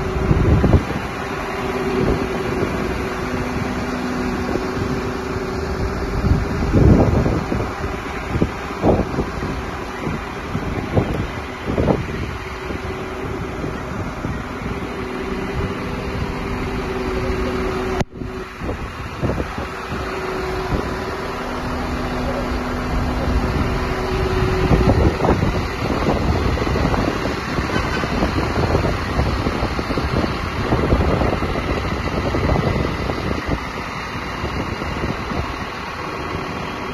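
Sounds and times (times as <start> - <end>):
concrete pump diesel engine: 0.0 - 36.9.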